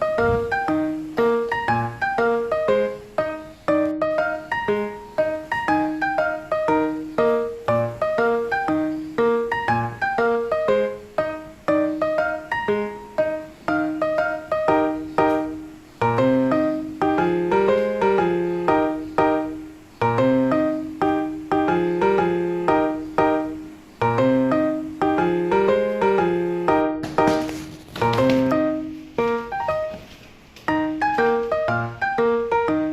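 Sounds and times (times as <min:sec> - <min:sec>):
solo piano melody: 0:00.0 - 0:32.9.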